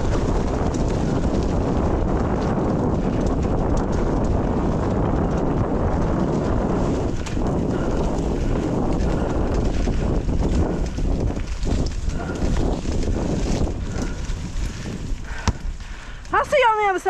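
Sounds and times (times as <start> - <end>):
mountain bike rattling: 0.0 - 17.0
wind rushing over microphone: 0.0 - 17.0.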